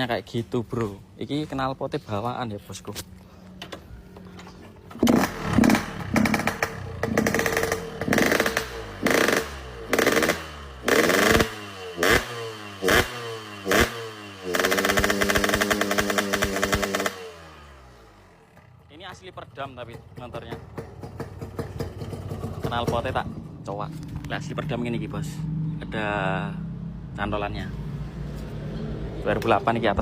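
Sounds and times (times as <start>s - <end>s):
motorcycle engine revving: 4.1s - 30.0s.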